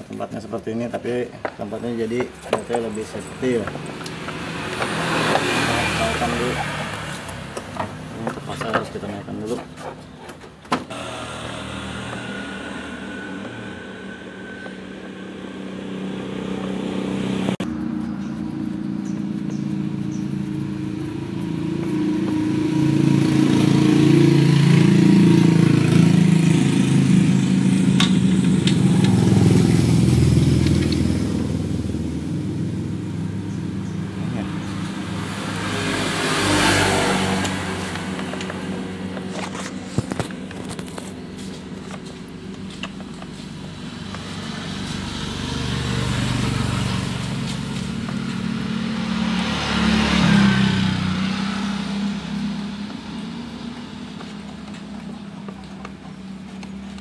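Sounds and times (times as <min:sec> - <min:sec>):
vehicle engine running: 0:00.0 - 0:10.2, 0:10.9 - 0:57.0.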